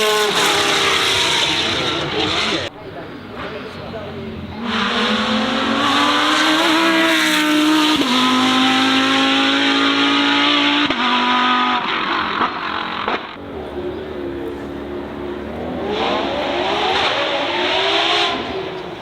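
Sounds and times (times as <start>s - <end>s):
car engine accelerating hard: 3.4s - 19.0s.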